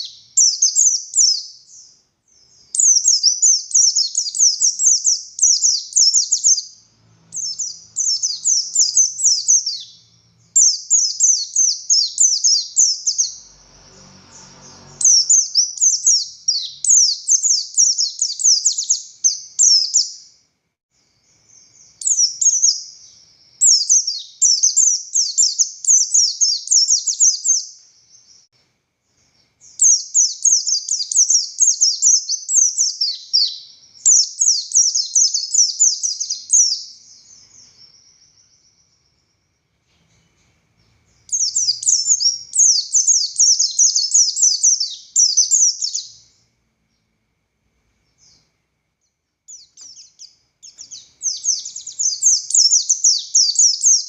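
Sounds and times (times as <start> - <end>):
bird singing high rapid notes: 0.0 - 20.4, 21.2 - 28.5, 29.2 - 39.7, 40.8 - 47.1, 49.1 - 54.0.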